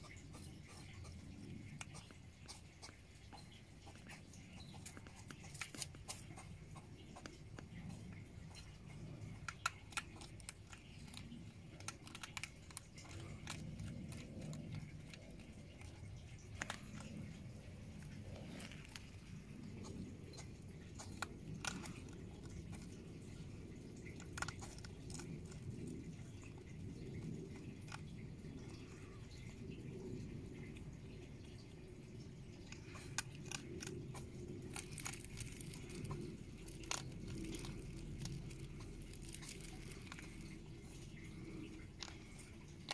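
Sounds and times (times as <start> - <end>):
hedgehogs chewing: 0.0 - 42.9
soft low murmur: 0.0 - 42.9.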